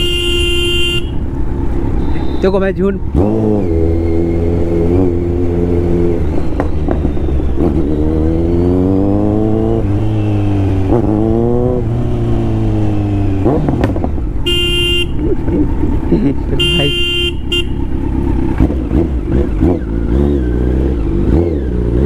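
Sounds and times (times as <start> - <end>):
motorcycle engine accelerating: 3.0 - 22.0.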